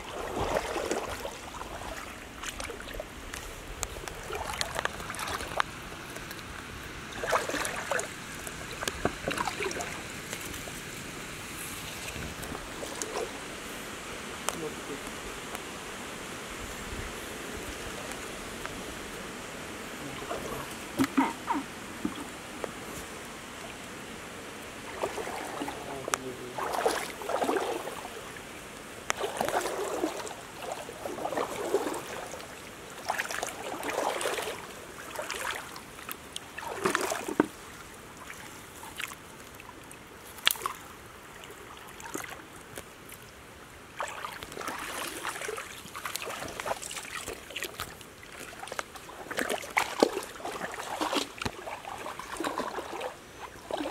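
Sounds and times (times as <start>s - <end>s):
water sloshing splashes: 0.0s - 10.9s, 11.7s - 13.6s, 20.0s - 23.9s, 24.6s - 43.3s, 43.9s - 53.9s
feet wading through water: 0.0s - 15.0s, 20.0s - 53.9s.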